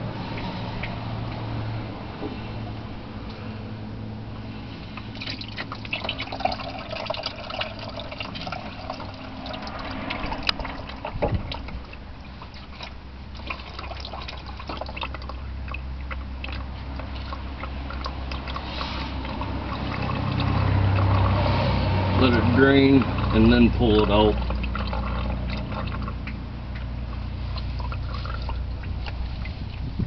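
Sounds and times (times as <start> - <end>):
oil dripping and trickling: 0.0 - 30.0.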